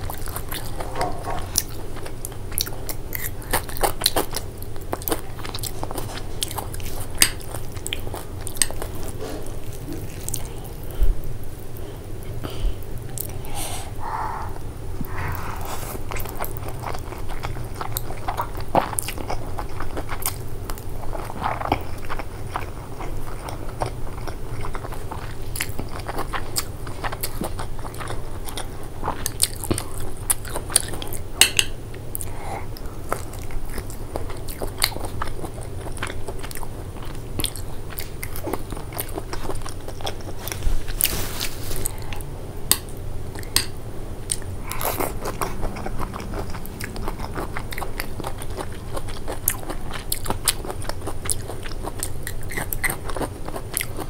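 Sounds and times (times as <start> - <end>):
chewing noodles: 0.0 - 10.9, 14.0 - 54.0.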